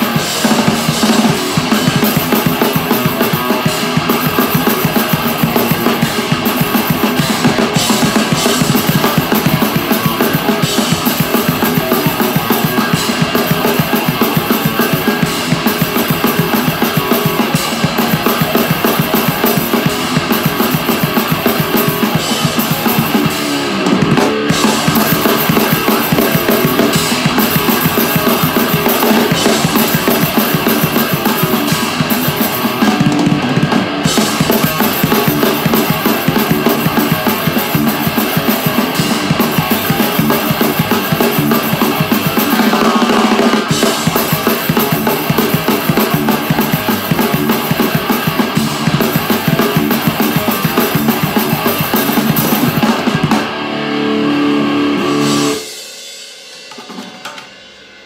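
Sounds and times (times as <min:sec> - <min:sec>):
fast metal drum beat: 0:00.0 - 0:58.0.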